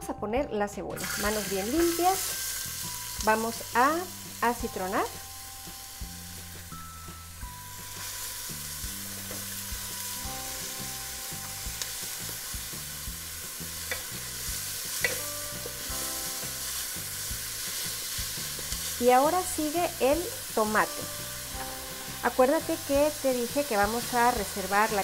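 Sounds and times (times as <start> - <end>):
onion sizzling in oil: 1.0 - 25.0.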